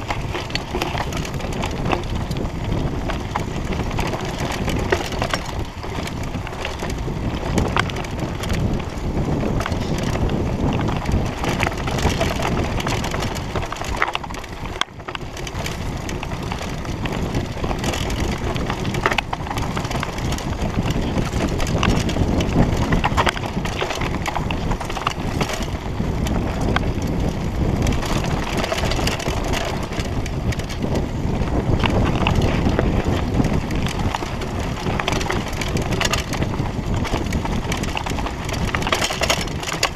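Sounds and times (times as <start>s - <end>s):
bike rattling and clicking: 0.0s - 39.9s
tyres crunching over dirt: 0.0s - 39.9s
wind buffeting microphone: 0.0s - 39.9s.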